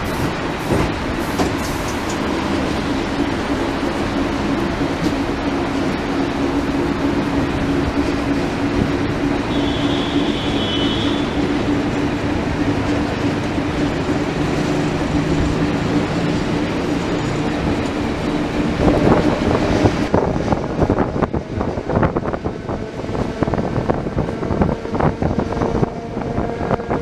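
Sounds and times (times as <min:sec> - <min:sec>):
train clattering: 0:00.0 - 0:27.0
train rolling rumble: 0:00.0 - 0:27.0.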